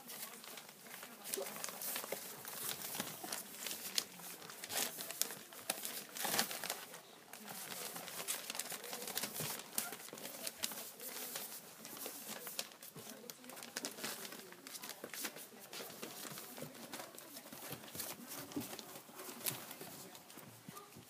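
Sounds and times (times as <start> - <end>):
newspaper rustling and crinkling: 0.0 - 21.0
puppy paws clicking and scuffing: 0.0 - 21.0.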